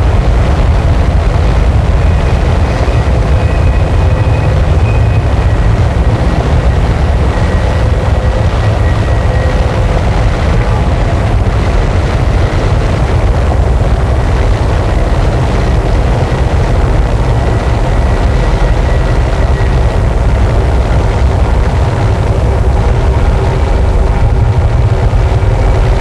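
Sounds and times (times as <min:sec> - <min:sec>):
harsh distorted noise music: 0:00.0 - 0:26.0.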